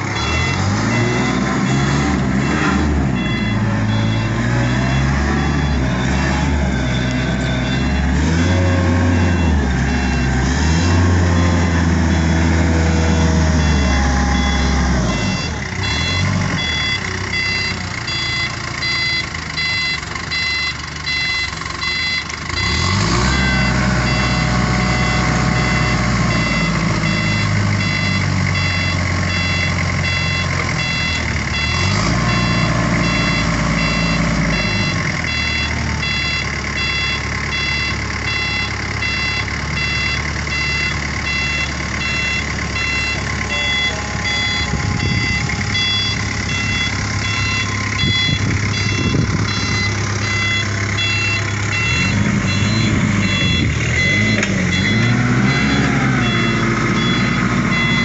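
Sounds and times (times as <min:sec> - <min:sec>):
forklift engine running: 0:00.0 - 0:58.0
high warning beeper: 0:00.2 - 0:22.8, 0:23.4 - 0:58.0.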